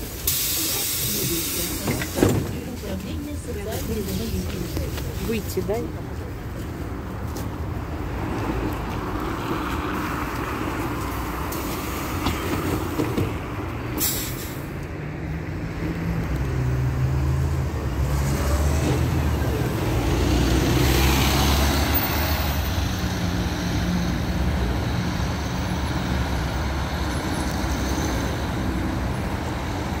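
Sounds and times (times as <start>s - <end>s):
bus engine hum: 0.0s - 30.0s
road noise: 0.0s - 30.0s.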